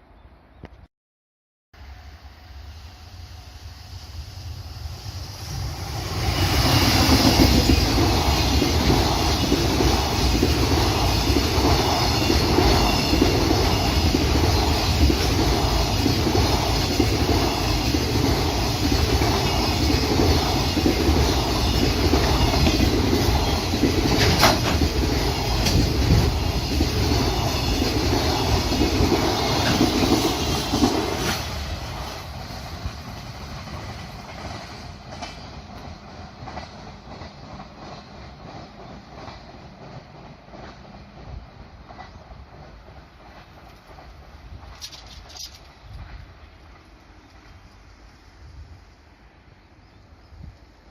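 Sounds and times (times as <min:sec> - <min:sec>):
freight train wagons rolling: 0:05.6 - 0:48.4.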